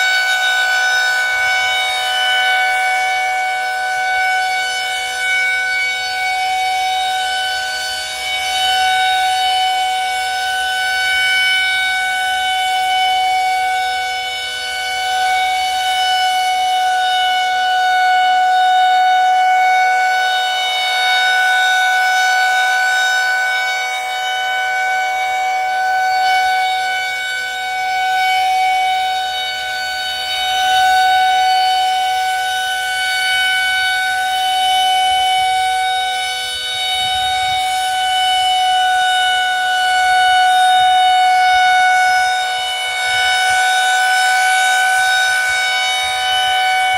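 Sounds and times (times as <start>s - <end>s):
rotating warning siren: 0.0s - 46.9s.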